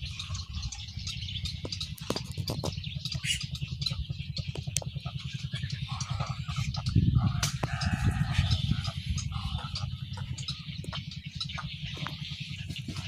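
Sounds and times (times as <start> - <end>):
low pulsing throb: 0.0 - 13.0
waterbirds calling: 0.0 - 13.0.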